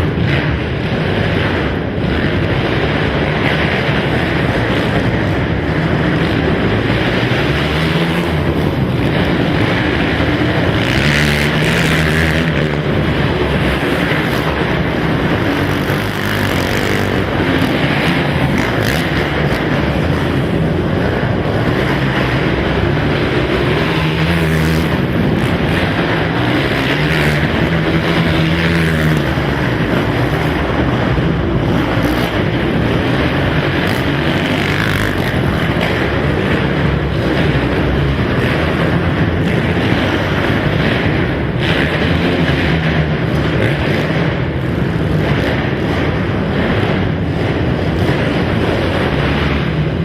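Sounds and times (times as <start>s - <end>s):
quad engines revving: 0.0s - 50.0s.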